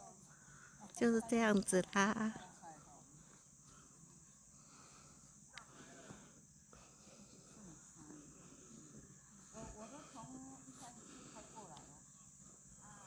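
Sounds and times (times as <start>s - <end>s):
faint distant voices: 0.0s - 13.0s
insects chirring: 0.0s - 13.0s.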